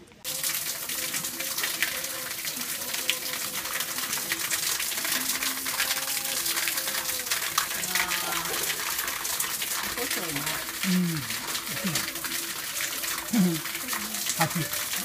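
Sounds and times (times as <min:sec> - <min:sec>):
waterfall splashing onto stones: 0:00.0 - 0:15.0.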